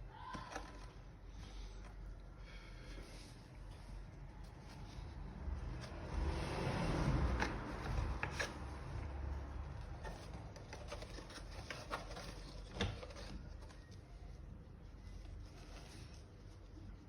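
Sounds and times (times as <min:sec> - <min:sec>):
rustling and scraping of parts: 0:00.2 - 0:17.0.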